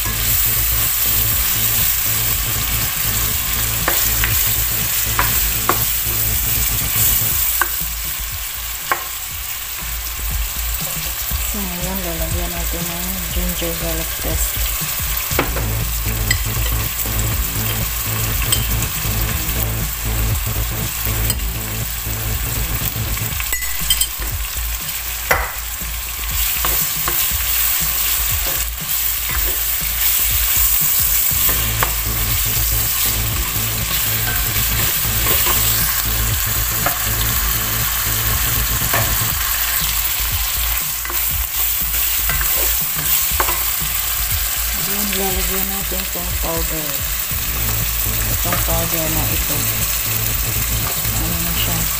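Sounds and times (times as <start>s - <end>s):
meat and onion sizzling in oil: 0.0s - 51.9s.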